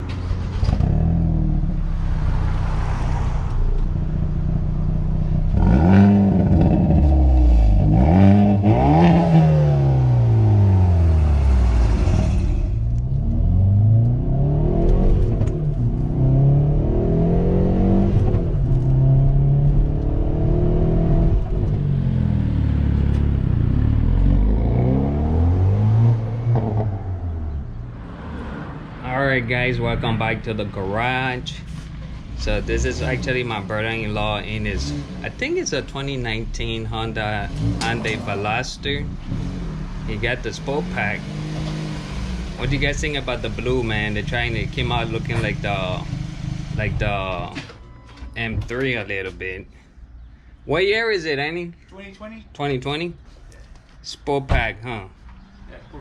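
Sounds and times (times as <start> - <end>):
car engine revving: 0.0 - 47.6.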